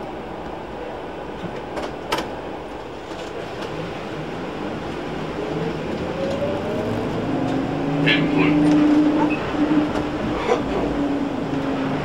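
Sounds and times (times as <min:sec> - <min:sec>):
trolleybus running rumble and hiss: 0:00.0 - 0:12.0.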